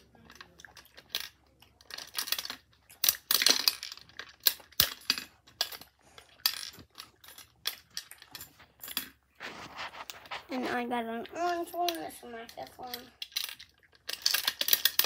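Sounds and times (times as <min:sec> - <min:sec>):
toy gumball machine rattling: 0:00.2 - 0:09.1, 0:11.1 - 0:15.0.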